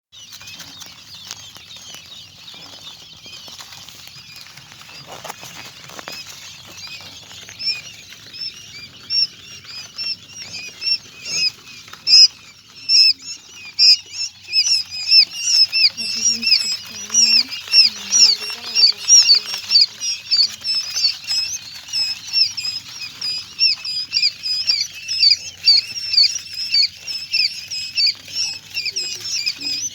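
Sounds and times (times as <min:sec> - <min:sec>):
chicks peeping: 0:00.1 - 0:29.9.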